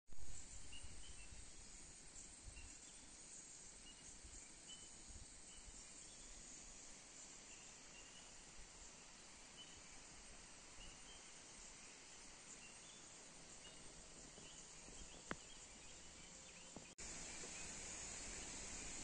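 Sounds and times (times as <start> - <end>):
high-pitched insect chorus: 0.2 - 19.0.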